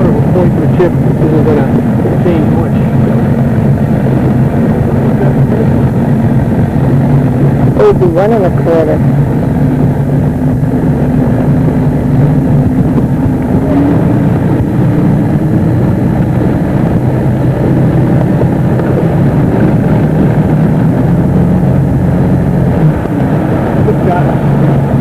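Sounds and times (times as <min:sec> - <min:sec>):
motorboat engine running: 0:00.0 - 0:25.0
rushing noise: 0:00.0 - 0:25.0.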